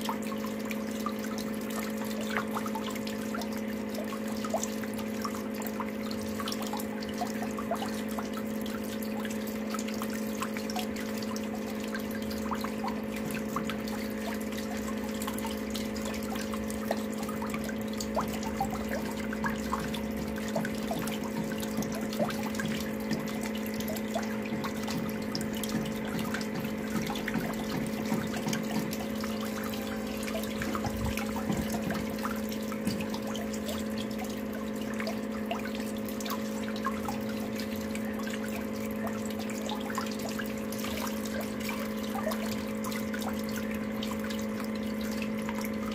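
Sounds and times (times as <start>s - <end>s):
steady low hum: 0.0s - 45.9s
water drips and splashes: 0.0s - 45.9s
water swirling and trickling: 0.0s - 45.9s.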